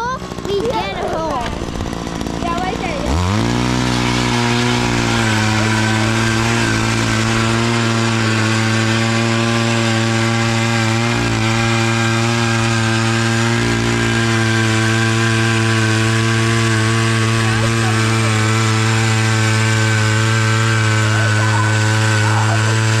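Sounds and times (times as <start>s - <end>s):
ice auger engine running: 0.0s - 23.0s.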